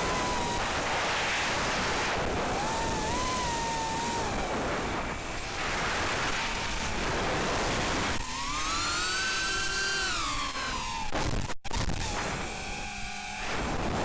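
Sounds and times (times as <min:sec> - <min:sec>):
drone motors whining: 0:00.0 - 0:14.0
propeller wash and wind: 0:00.0 - 0:14.0.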